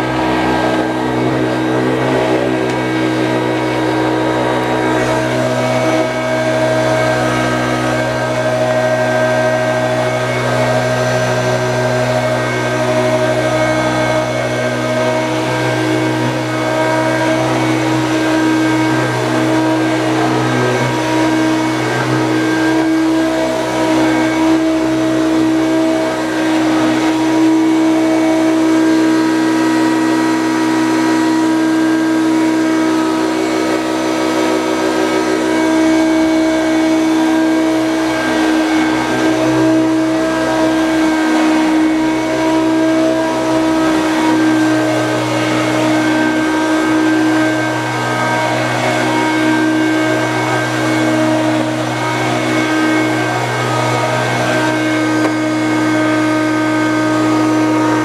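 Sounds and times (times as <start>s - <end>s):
vacuum cleaner whining: 0.0s - 58.0s.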